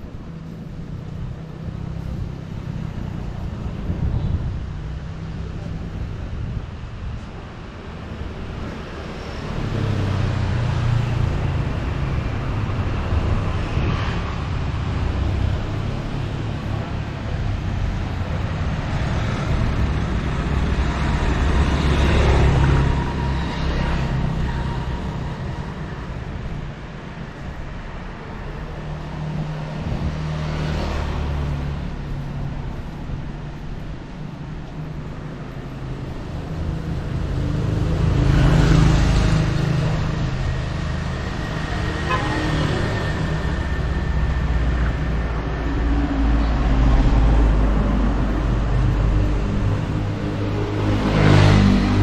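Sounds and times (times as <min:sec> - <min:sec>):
vehicles passing: 0:00.0 - 0:52.0.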